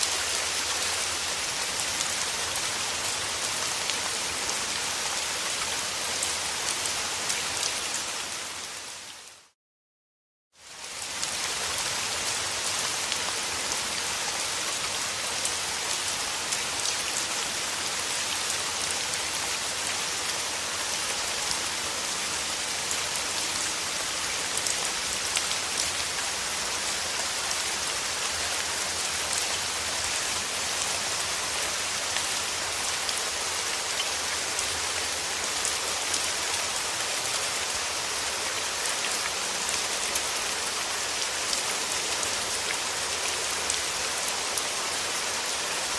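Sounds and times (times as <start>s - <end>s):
steady rain falling: 0.0s - 9.6s, 10.6s - 45.9s.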